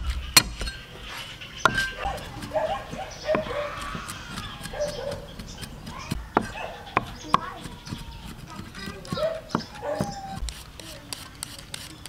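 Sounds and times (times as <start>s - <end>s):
cleaver chopping on wooden board: 1.6s - 11.9s.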